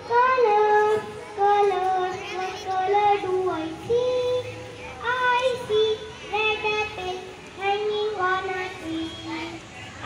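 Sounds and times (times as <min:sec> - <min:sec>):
young children singing: 0:00.0 - 0:09.6.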